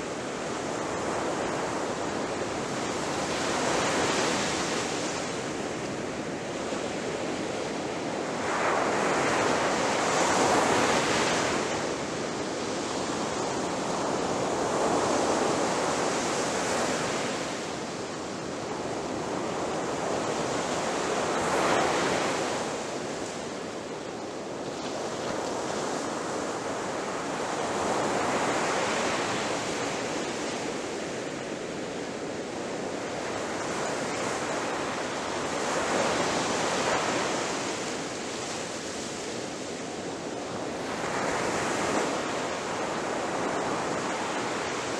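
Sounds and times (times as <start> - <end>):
ocean waves crashing on shore: 0.0 - 44.9.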